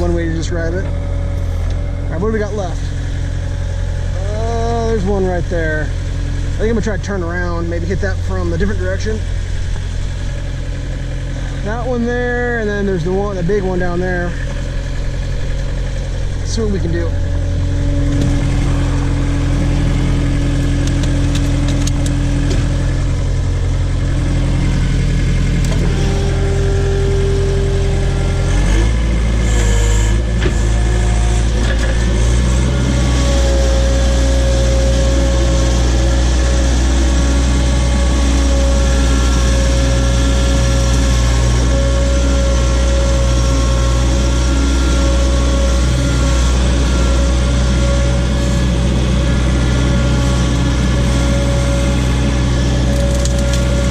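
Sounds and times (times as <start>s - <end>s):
backhoe engine running: 0.0s - 53.9s.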